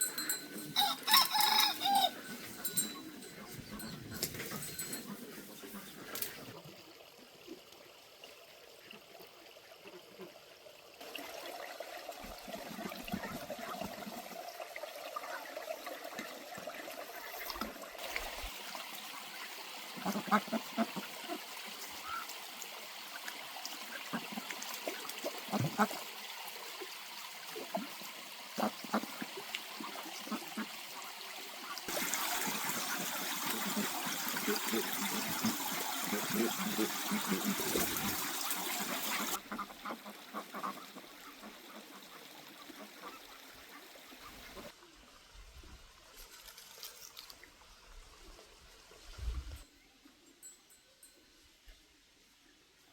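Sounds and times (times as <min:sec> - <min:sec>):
water running and trickling: 0:00.0 - 0:44.7.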